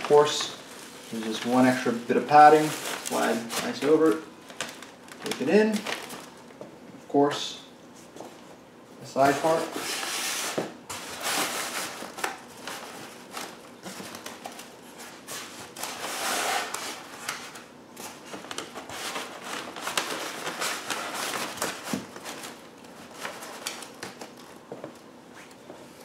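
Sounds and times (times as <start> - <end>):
plastic rustling: 0.0 - 6.6, 9.2 - 25.8.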